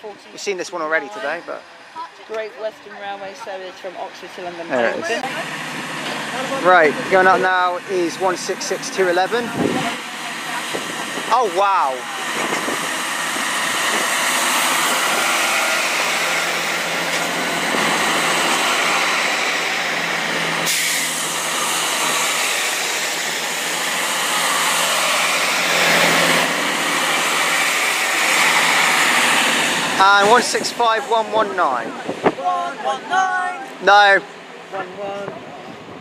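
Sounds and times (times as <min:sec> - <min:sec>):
diesel train passing: 0:00.0 - 0:36.0.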